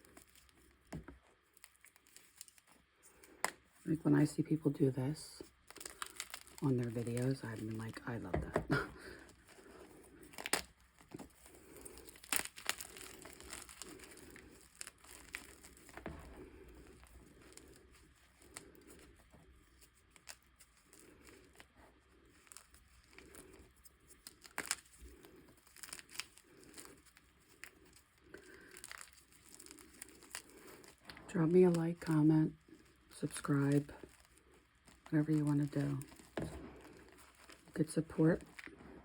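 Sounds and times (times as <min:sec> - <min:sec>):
chalk crushing and crumbling: 0:05.4 - 0:39.0.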